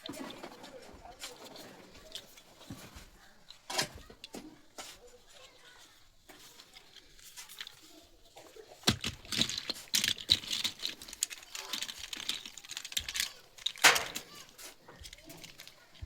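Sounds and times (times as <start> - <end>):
toy blocks clicking and clattering: 0.0 - 16.0.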